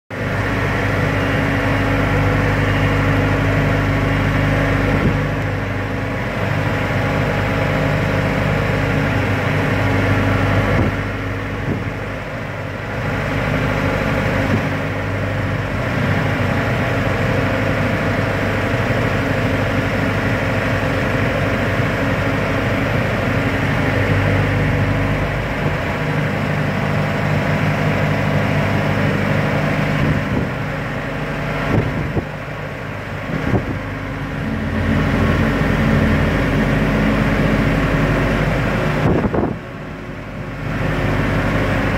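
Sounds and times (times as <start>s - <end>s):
engine running: 0.1s - 41.9s.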